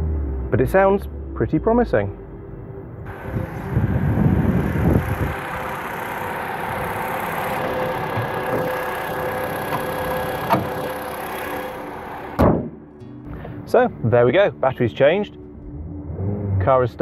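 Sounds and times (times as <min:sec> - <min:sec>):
car engine idling: 0:00.0 - 0:14.2.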